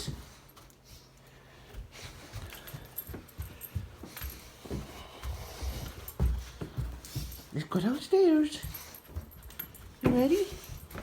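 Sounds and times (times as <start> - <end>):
light jingle: 0.0 - 11.0.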